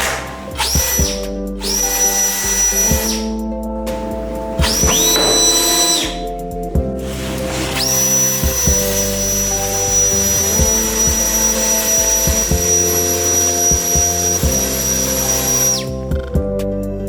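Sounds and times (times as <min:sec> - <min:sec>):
electric blower whining: 0:00.0 - 0:16.2
background music: 0:00.0 - 0:17.0.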